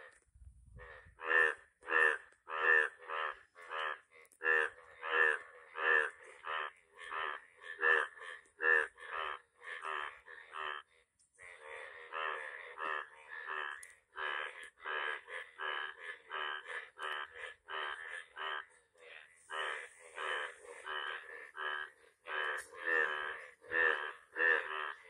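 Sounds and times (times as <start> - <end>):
frogs croaking: 0.0 - 25.0.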